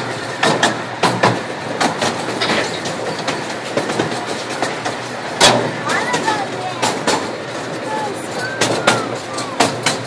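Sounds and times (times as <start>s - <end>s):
loud wheel clack: 0.0s - 10.0s
train running rumble: 0.0s - 10.0s
train wheels clicking on rail joints: 0.0s - 10.0s.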